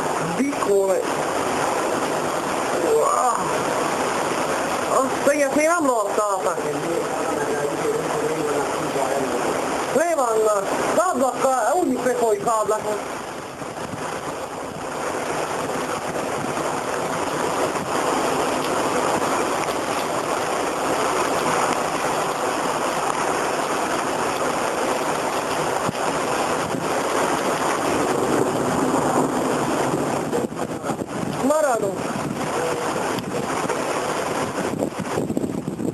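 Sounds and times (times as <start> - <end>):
gusting wind: 0.0 - 35.9
heavy rain: 0.0 - 35.9.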